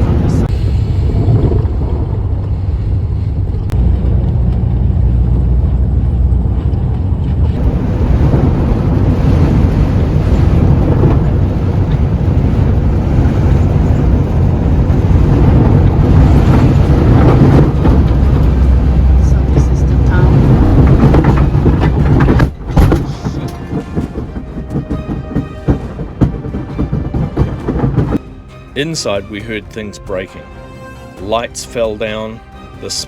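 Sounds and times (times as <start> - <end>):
wind buffeting microphone: 0.0 - 28.6
road and engine noise: 0.0 - 33.0.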